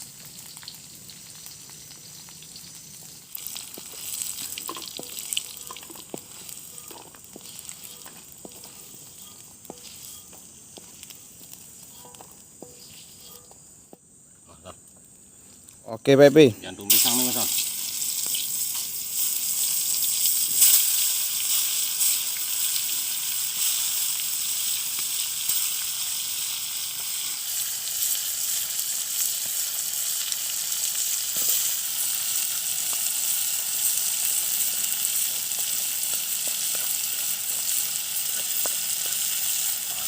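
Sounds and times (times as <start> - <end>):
food sizzling in hot oil: 0.0 - 13.8, 16.8 - 40.0.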